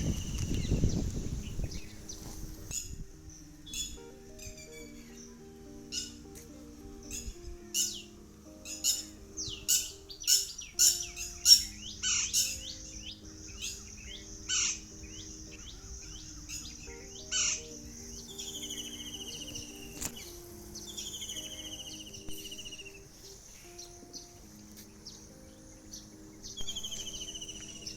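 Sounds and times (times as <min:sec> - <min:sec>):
falling buzzy bird trill: 0:00.0 - 0:27.9
soft background music: 0:00.0 - 0:27.9
songbirds chirping: 0:00.0 - 0:27.9.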